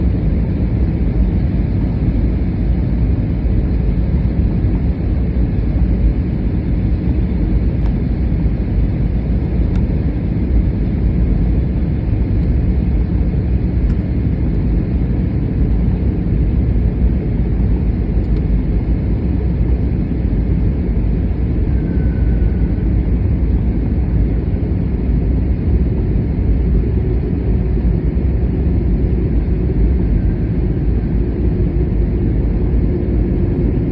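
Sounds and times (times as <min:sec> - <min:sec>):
airplane low rumble: 0:00.0 - 0:33.9.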